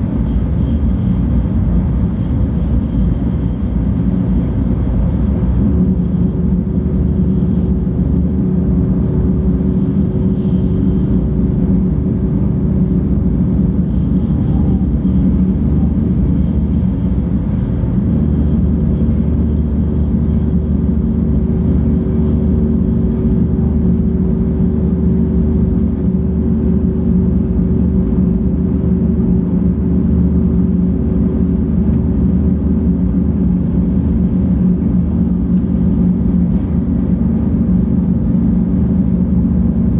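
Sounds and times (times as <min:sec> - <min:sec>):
faint steady hum: 0:00.0 - 0:39.9
train cabin rumble: 0:00.0 - 0:39.9.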